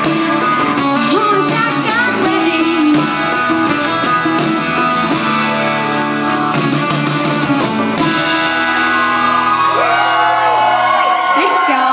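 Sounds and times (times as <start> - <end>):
live band with electric guitars: 0.0 - 11.9.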